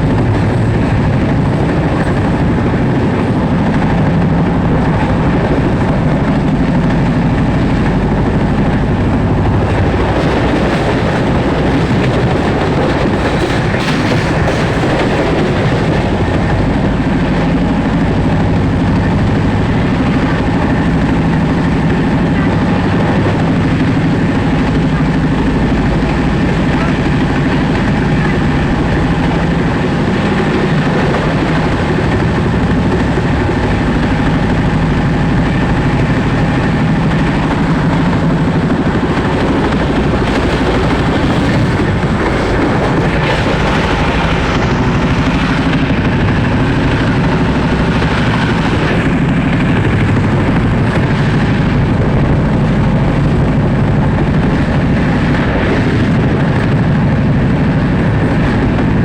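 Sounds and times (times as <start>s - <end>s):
rushing air noise: 0.0s - 59.0s
train wheels rumbling on rails: 0.0s - 59.0s.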